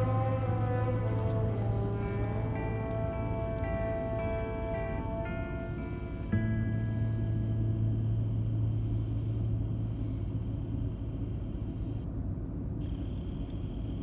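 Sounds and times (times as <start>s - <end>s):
engine and road rumble: 0.0s - 14.0s
low hum: 0.0s - 14.0s.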